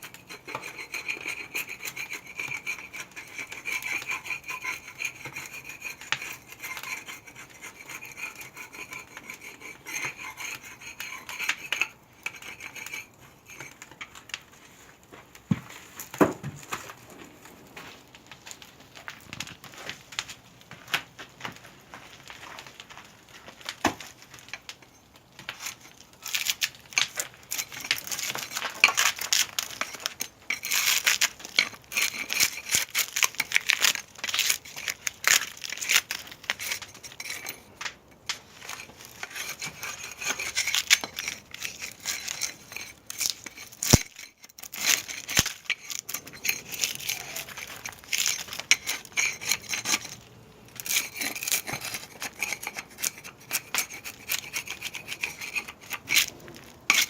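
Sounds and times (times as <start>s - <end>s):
firewood scraping and knocking: 0.0s - 57.0s.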